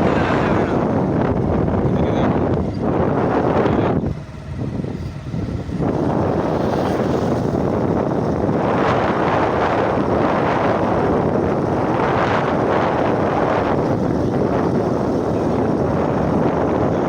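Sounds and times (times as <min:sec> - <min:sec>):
moving vehicle running noise: 0:00.0 - 0:17.0
wind buffeting microphone: 0:00.0 - 0:17.0.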